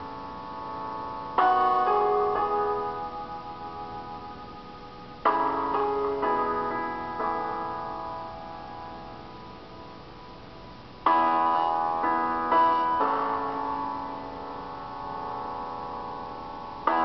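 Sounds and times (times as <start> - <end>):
quiet held chord: 0.0 - 17.0
struck keyboard chords: 0.0 - 17.0.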